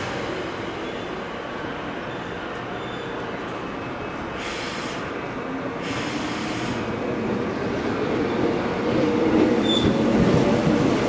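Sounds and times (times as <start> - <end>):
electric train arriving: 0.0 - 11.0.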